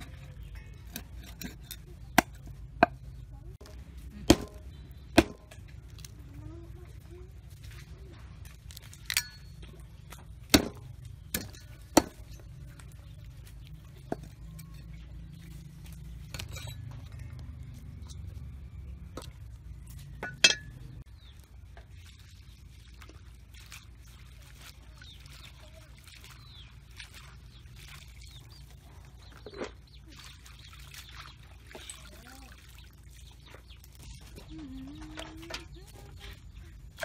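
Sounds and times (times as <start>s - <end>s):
water splashing in metal bowl: 6.9s - 37.0s.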